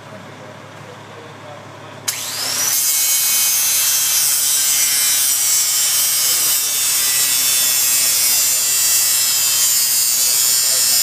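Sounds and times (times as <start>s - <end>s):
power tool grinding steel: 2.1s - 11.0s.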